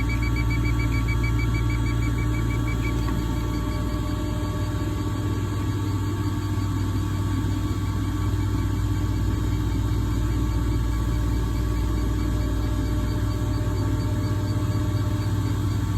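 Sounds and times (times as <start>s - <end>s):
machine humming: 0.0s - 15.9s.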